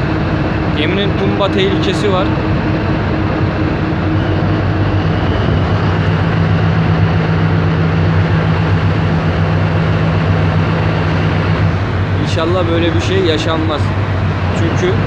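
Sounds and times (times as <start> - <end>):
diesel engines droning: 0.0 - 15.0
rush of wind and water: 0.0 - 15.0.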